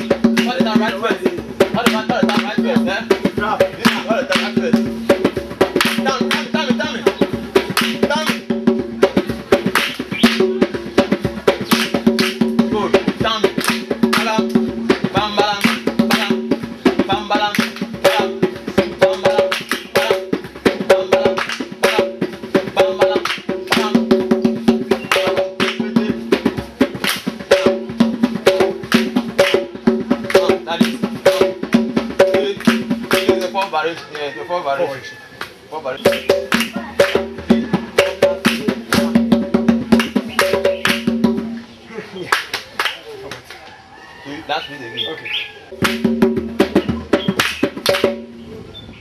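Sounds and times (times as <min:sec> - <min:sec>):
drums played fast: 0:00.0 - 0:33.9, 0:36.0 - 0:41.7, 0:45.7 - 0:48.4.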